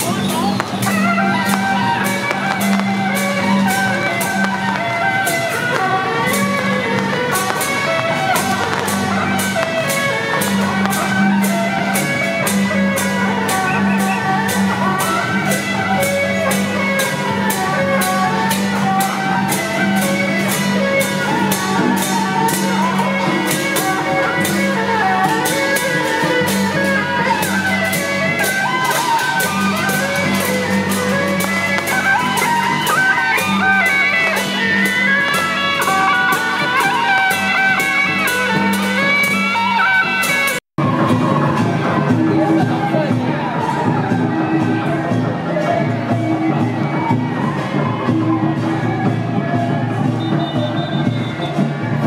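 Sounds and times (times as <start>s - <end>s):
music with steady beat: 0.0s - 52.0s.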